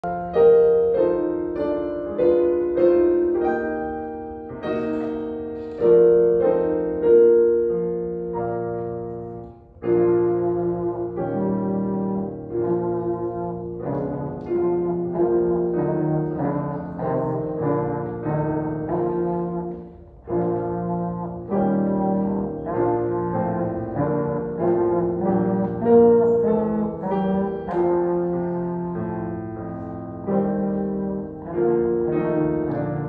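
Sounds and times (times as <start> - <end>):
digital piano accompaniment: 0.0 - 33.0
trombone melody: 0.0 - 33.0.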